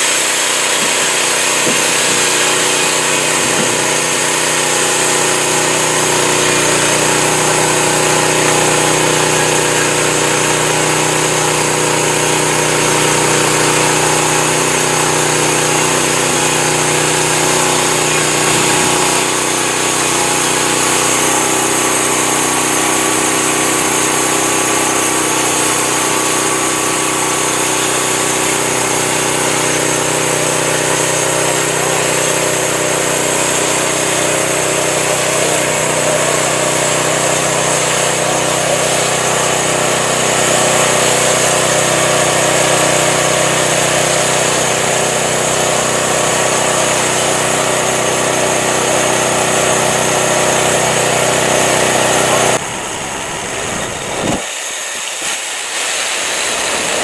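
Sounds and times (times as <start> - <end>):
sawmill engine droning: 0.0 - 57.0.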